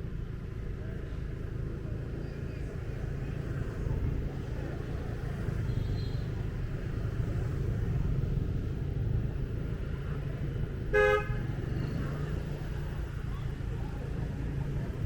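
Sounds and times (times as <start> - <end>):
motorbike engine rumble: 0.2 - 15.0.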